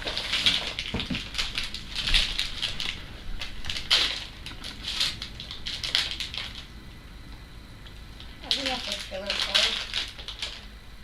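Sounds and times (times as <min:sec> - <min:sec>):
wrapper and cards rustling: 0:00.0 - 0:06.7, 0:08.4 - 0:10.7.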